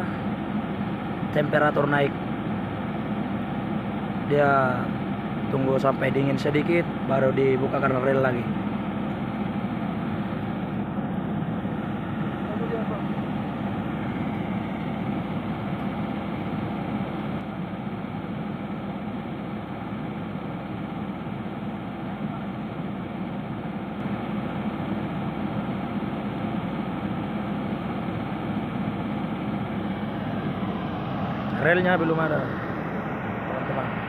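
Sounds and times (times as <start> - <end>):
pickup engine idling: 0.0 - 34.0.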